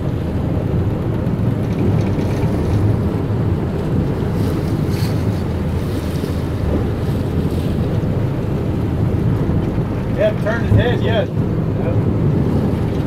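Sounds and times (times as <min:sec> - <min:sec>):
boat engines running: 0:00.0 - 0:13.0
water rushing and splashing: 0:00.0 - 0:13.0
wind rumble on microphone: 0:00.0 - 0:13.0.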